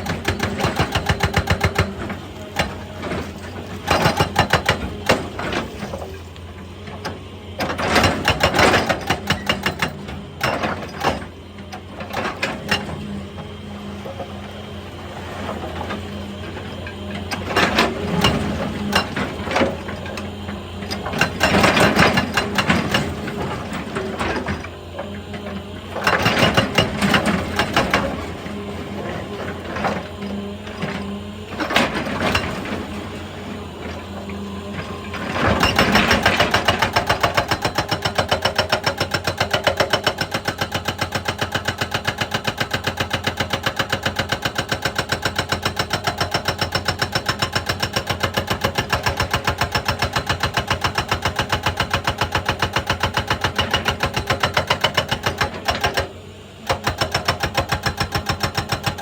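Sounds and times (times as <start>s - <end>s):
hydraulic breaker hammering rock: 0.0s - 6.2s, 6.9s - 14.6s, 15.2s - 59.0s
diesel engine running: 0.0s - 59.0s.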